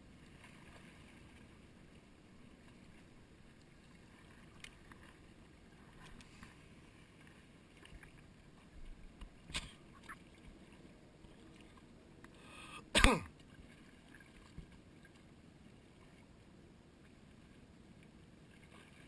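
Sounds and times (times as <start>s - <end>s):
calm water against rocks: 0.0s - 19.0s.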